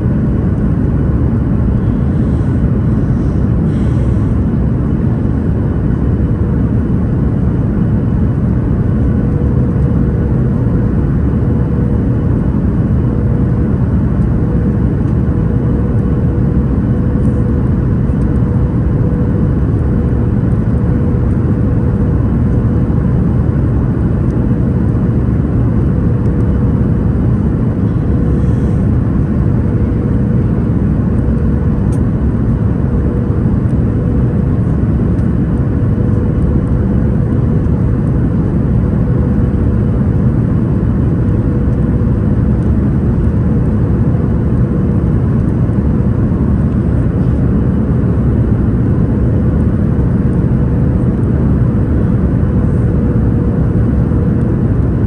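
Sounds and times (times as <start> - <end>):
jet engines rumbling: 0.0 - 55.0
mid-pitched hum: 0.0 - 55.0.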